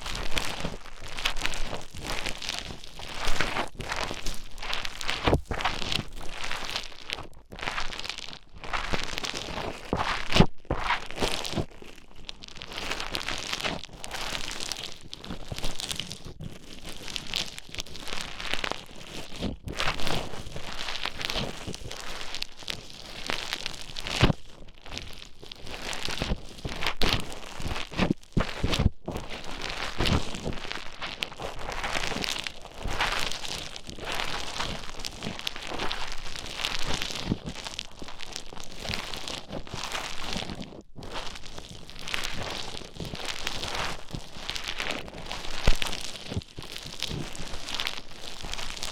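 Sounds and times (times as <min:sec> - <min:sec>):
foam beads crackling when squished: 0:00.0 - 0:48.9.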